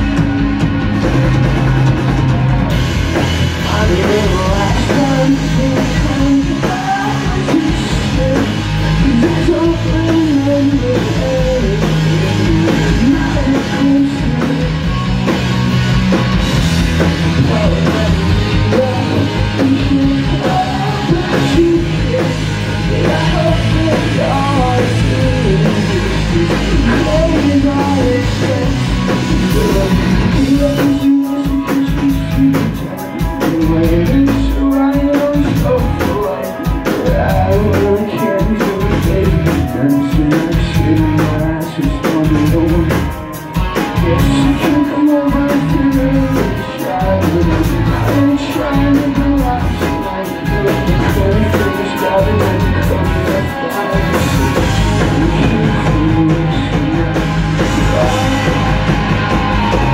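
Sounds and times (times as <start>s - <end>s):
drums: 0.0s - 59.9s
electric guitars: 0.0s - 59.9s
person singing: 0.0s - 59.9s.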